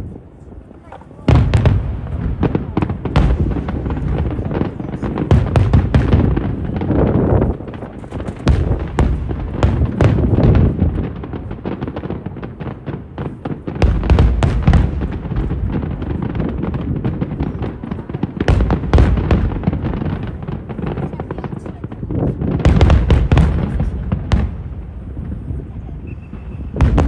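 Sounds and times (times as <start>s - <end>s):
firework crackling: 0.0s - 27.0s
firework booms: 0.8s - 27.0s.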